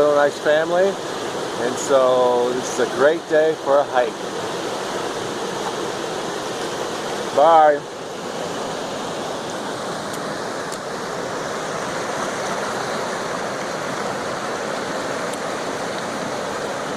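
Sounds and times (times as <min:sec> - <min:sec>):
steady rushing noise: 0:00.0 - 0:16.9.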